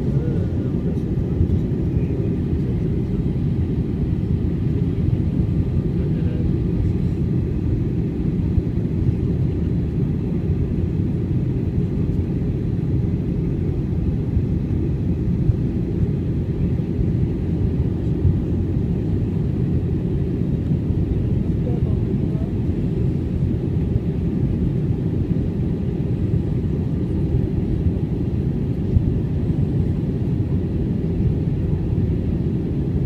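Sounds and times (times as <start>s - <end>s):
airliner cabin noise: 0.0s - 33.0s.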